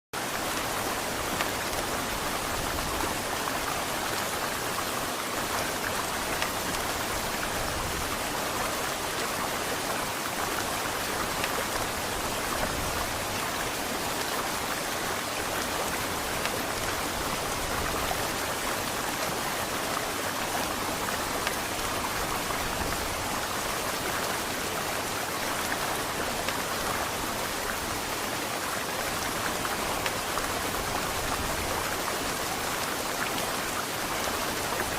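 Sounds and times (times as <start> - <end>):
heavy rain: 0.2 - 34.9.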